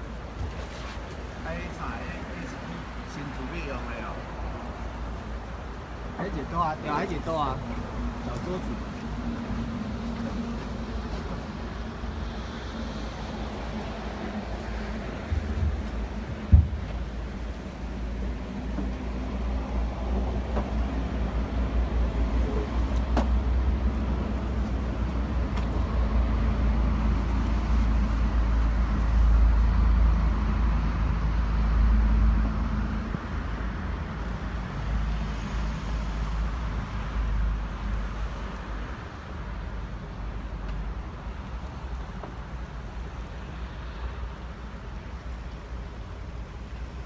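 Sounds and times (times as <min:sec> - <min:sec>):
boat engine rumbling: 0:00.0 - 0:38.8.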